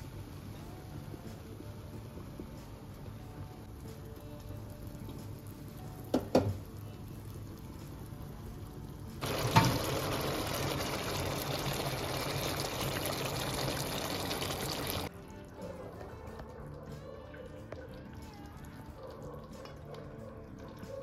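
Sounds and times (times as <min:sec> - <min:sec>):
liquid bubbling and sizzling in pan: 0:00.0 - 0:21.0.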